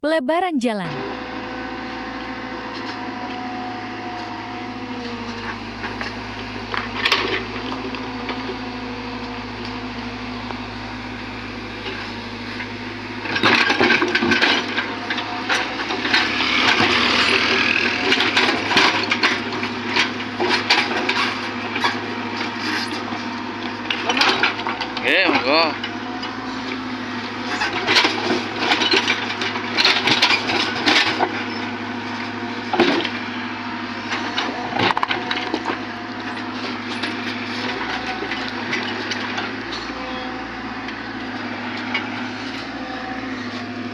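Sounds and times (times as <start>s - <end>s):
diesel engine running: 0.7s - 43.9s.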